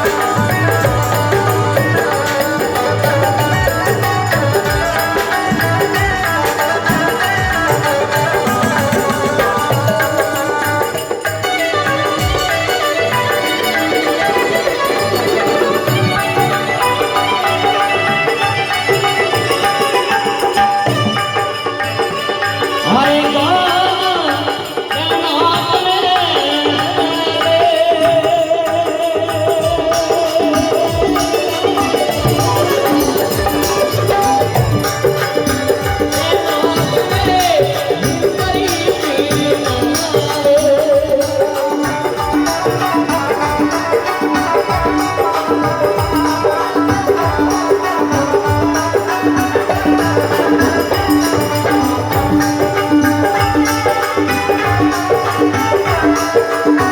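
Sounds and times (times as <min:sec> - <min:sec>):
drum and rattle percussion: 0:00.0 - 0:56.9.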